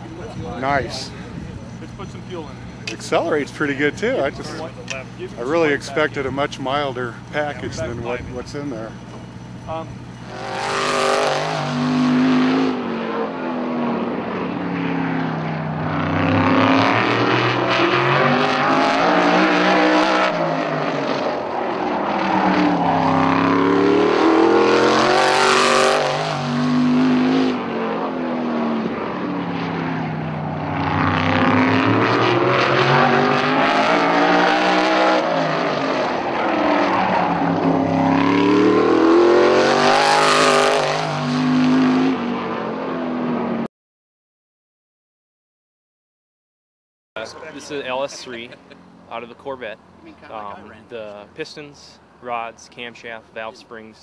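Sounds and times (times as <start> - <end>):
race car engine passing: 0.0 - 43.6.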